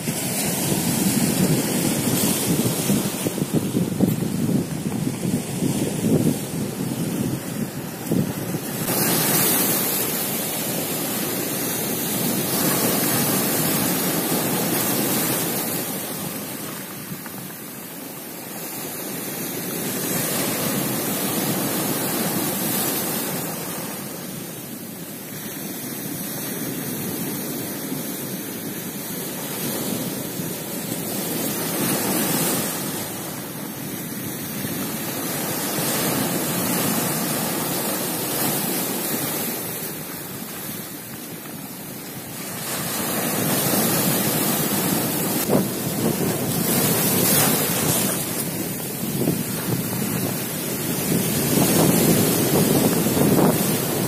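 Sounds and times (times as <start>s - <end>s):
surf washing over pebbles: 0.0s - 54.0s.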